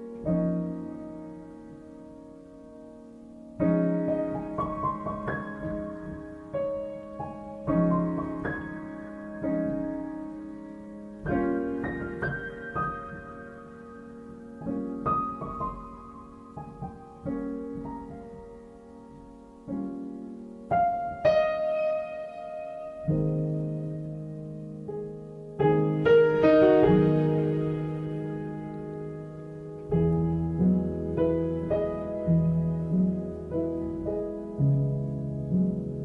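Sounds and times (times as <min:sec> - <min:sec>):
gentle piano music: 0:00.0 - 0:36.0.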